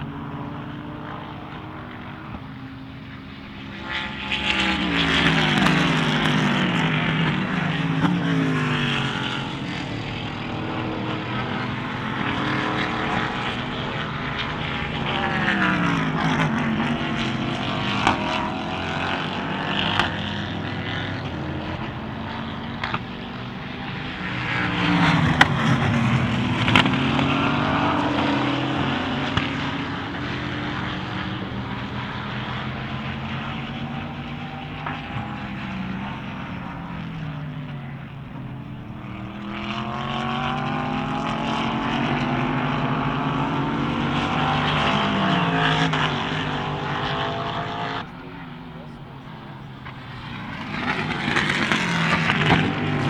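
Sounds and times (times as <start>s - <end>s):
race cars passing at speed: 0.0s - 53.0s.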